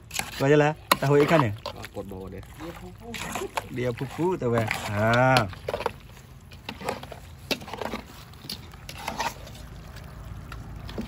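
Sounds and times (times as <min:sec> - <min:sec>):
spatula stirring meat in pot: 0:00.0 - 0:11.0.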